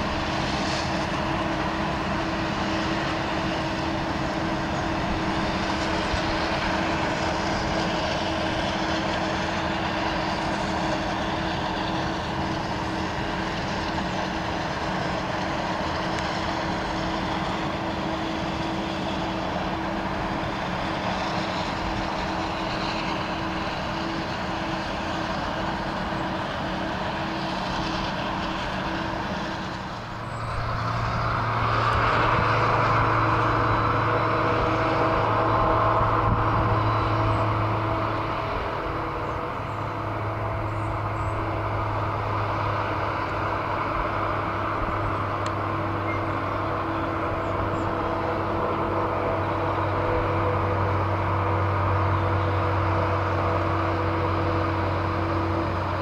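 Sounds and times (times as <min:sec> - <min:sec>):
forage harvester engine hum: 0:00.0 - 0:56.0
tractor engine: 0:00.0 - 0:56.0.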